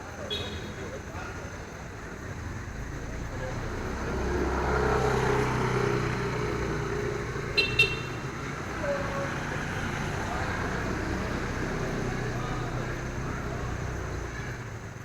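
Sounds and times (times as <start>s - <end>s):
low rumble of motor traffic: 0.0s - 15.0s.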